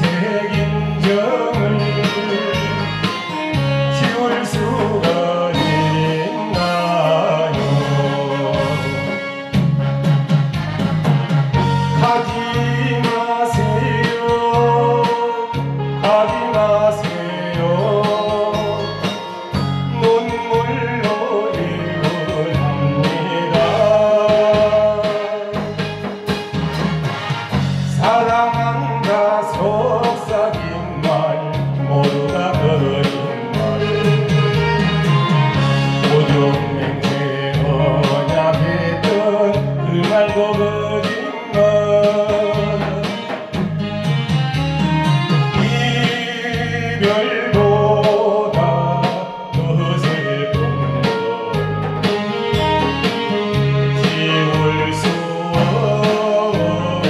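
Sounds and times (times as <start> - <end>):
man singing into a microphone: 0.0 - 9.6, 11.6 - 26.0, 27.9 - 43.6, 45.1 - 57.0
music with a steady beat: 0.0 - 57.0.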